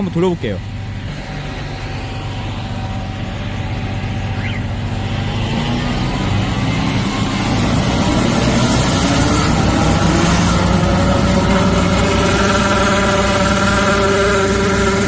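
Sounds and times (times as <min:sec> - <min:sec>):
drain-cleaning jetter running: 0:00.0 - 0:15.0
low even pulsing: 0:00.0 - 0:15.0.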